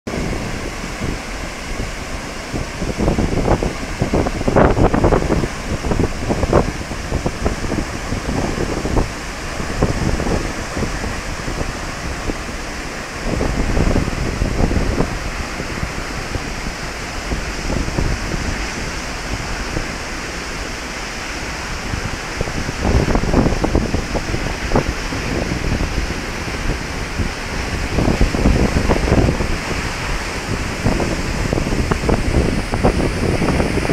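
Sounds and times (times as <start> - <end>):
waterfall roaring: 0.1 - 33.9
wind buffeting microphone: 0.1 - 33.9.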